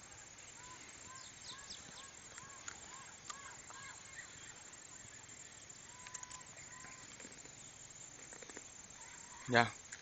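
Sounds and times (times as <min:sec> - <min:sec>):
faint thin bird calls: 0:00.5 - 0:09.7.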